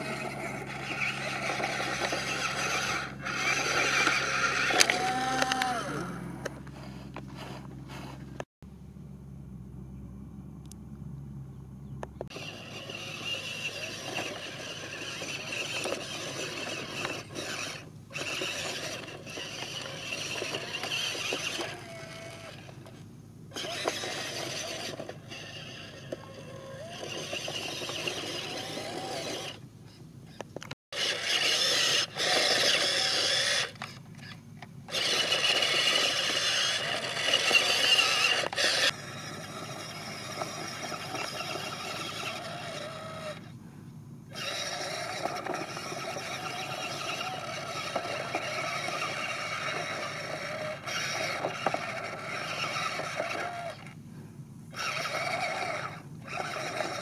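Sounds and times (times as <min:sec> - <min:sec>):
electric motors whining: 0:00.0 - 0:08.5, 0:12.0 - 0:43.6, 0:44.3 - 0:54.0, 0:54.7 - 0:57.0.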